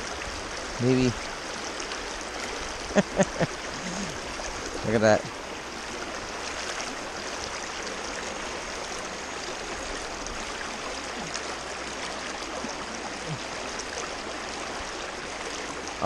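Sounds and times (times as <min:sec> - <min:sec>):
river current rushing: 0:00.0 - 0:16.0.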